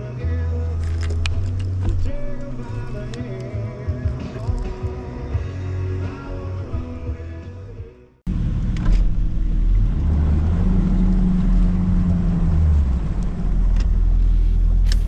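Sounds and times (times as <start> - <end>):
outboard motor rumbling: 0.0 - 7.4, 8.3 - 15.0.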